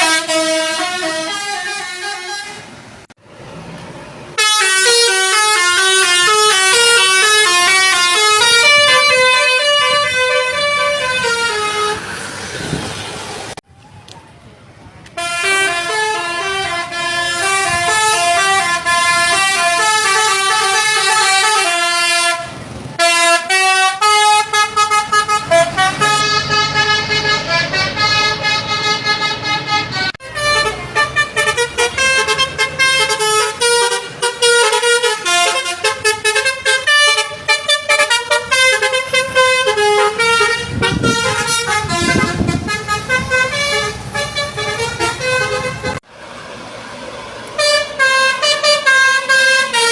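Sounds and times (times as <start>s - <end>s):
bus melody horns: 0.0s - 3.0s, 4.4s - 12.8s, 15.1s - 46.1s, 47.5s - 49.9s.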